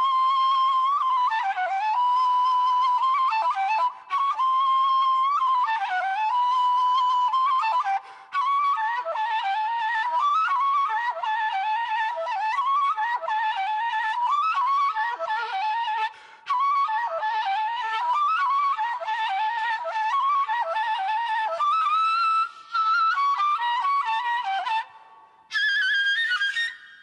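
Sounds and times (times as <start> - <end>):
wooden flute folk melody: 0.0 - 27.0.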